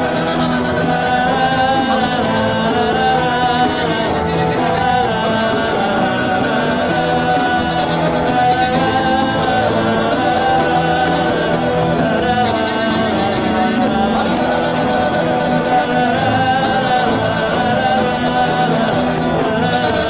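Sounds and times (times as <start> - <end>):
congregation praying aloud: 0.0 - 20.0
worship music: 0.0 - 20.0.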